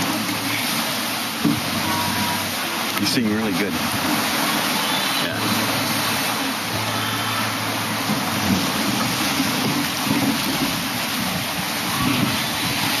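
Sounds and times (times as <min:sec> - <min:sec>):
sea on shore: 0:00.0 - 0:13.0
wind: 0:00.0 - 0:13.0.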